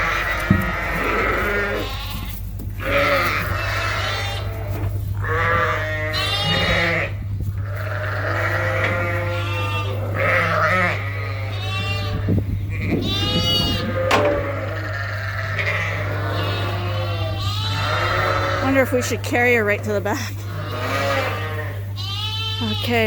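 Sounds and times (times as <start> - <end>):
sheep and lambs bleating: 0.0 - 23.0
steady low hum: 0.0 - 23.0.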